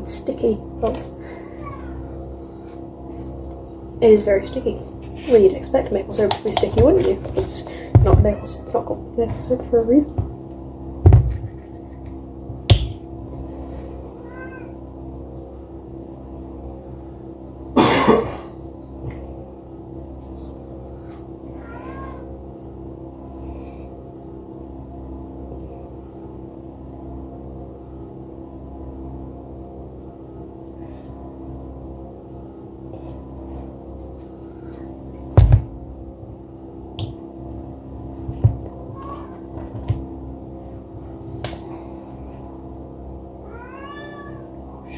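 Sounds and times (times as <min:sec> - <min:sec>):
steady hum: 0:00.0 - 0:44.9.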